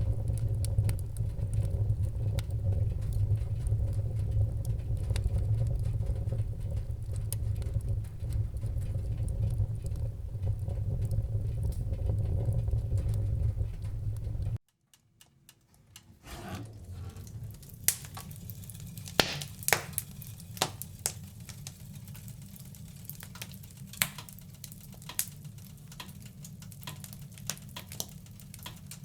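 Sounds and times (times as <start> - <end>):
low rumble of flames: 0.0 - 14.6, 16.2 - 29.0
fire crackles and pops: 0.0 - 29.0.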